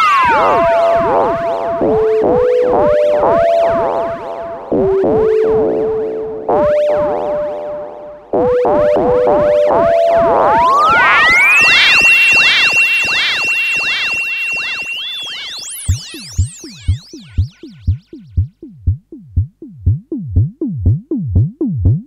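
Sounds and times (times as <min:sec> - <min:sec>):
analog synthesizer notes: 0:00.0 - 0:22.0.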